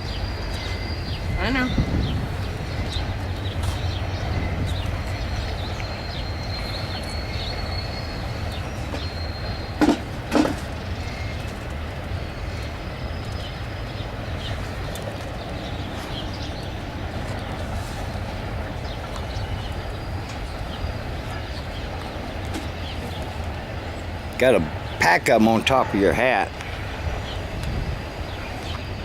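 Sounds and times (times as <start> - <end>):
wind rumble on microphone: 0.0 - 25.0, 25.6 - 29.0.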